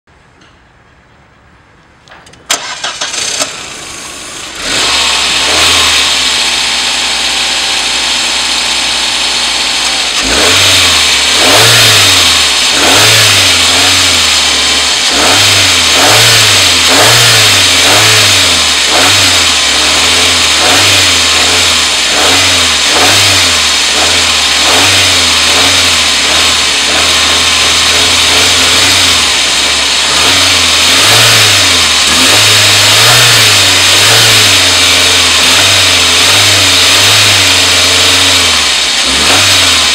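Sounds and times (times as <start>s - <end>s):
car engine idling: 1.0s - 39.9s
car engine cranking and starting: 2.0s - 39.9s
car engine revving in blips: 2.5s - 39.9s.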